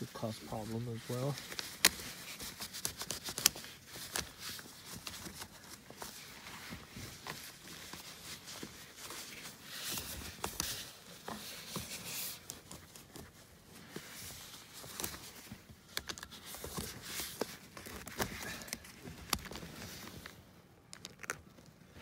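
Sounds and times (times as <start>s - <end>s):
paper tissue rubbing plastic: 0.0s - 20.4s.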